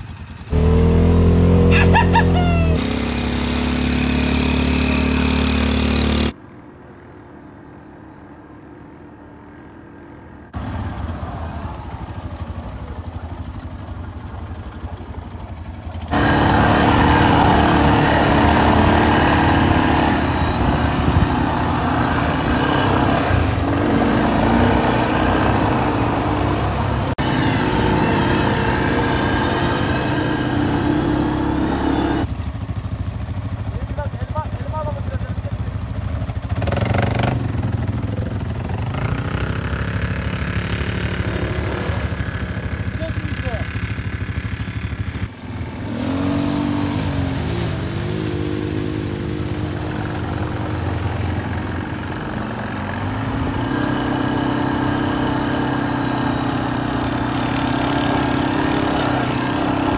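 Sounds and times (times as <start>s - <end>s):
off-road vehicle engines running: 0.0s - 7.3s, 8.1s - 59.9s.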